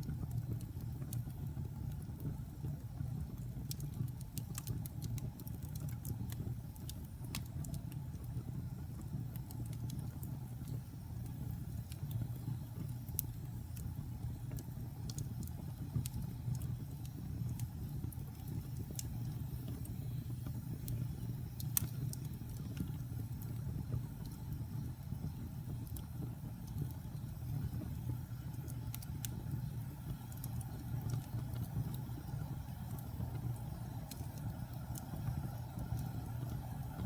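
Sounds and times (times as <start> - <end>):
fire crackling and popping: 0.0 - 37.0
fire flames rumbling: 0.0 - 37.0.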